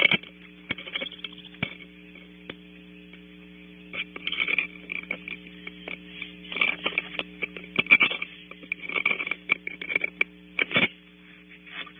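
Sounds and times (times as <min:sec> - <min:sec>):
electrical hum: 0:00.0 - 0:11.9.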